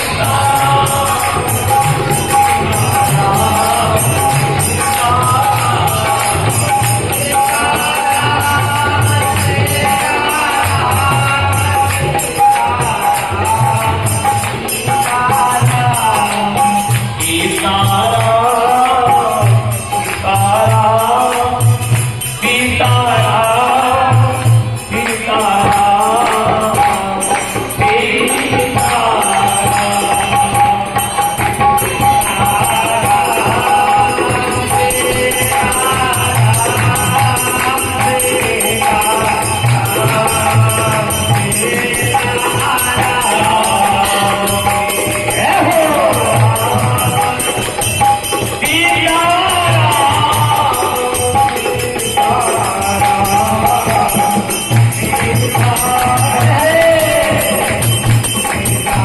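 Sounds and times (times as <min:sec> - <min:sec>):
harmonium melody: 0:00.0 - 0:59.0
jingling hand percussion: 0:00.0 - 0:59.0.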